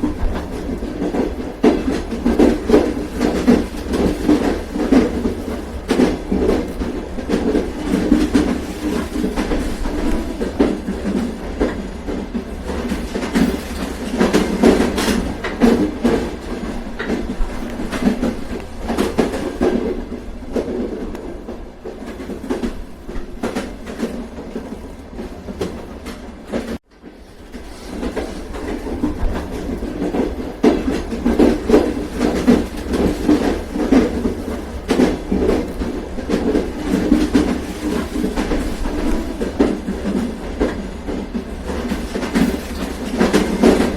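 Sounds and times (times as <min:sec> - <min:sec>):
train rumbling on rails: 0:00.0 - 0:43.9
wheels clickety-clack: 0:00.0 - 0:43.9.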